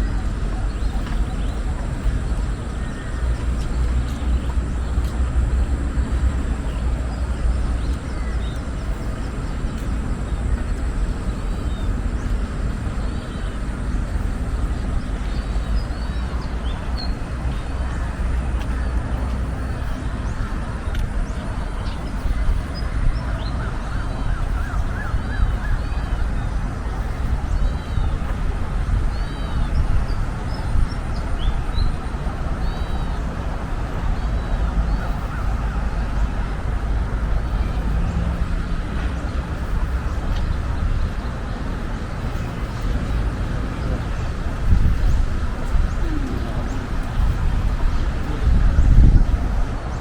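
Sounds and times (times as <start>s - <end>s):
birds chirping: 0.0s - 50.0s.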